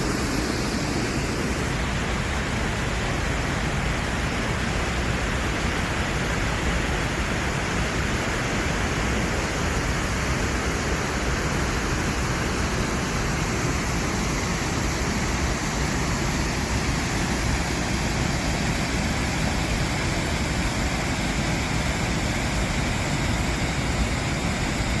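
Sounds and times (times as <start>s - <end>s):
fast-flowing water rushing: 0.0s - 25.0s.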